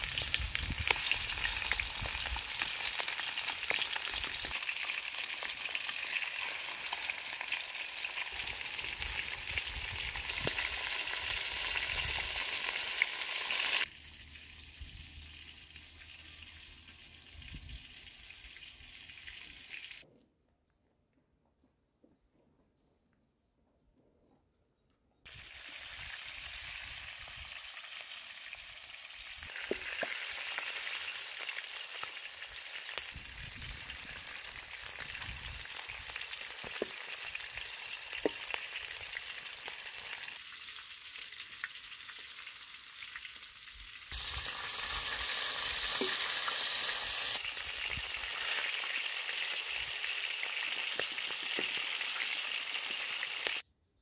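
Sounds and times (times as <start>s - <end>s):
quails sizzling in a pan: 0.0s - 20.0s, 25.3s - 53.6s.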